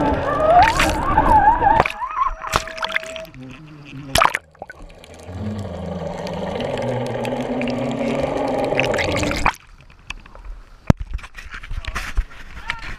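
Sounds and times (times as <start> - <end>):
boat engine underwater: 0.0 - 10.9.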